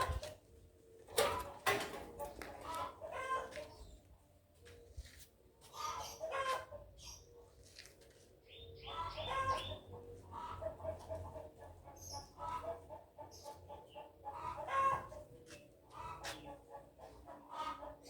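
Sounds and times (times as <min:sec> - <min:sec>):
chickens clucking: 0:00.0 - 0:07.6, 0:08.2 - 0:18.0.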